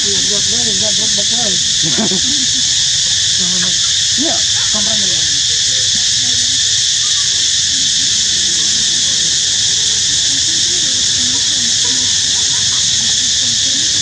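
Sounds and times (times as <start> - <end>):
faint wavering low calls: 0.0 - 14.0
high-pitched insect chorus drone: 0.0 - 14.0.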